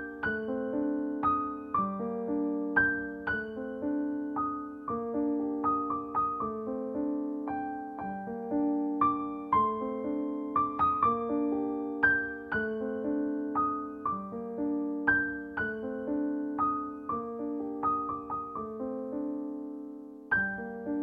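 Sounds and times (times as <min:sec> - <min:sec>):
slow calm piano music: 0:00.0 - 0:21.0.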